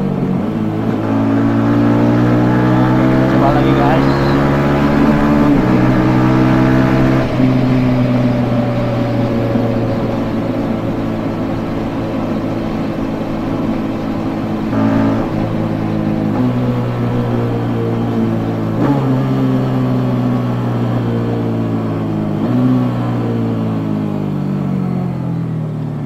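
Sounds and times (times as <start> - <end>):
motorcycle engine under way: 0.0 - 26.0.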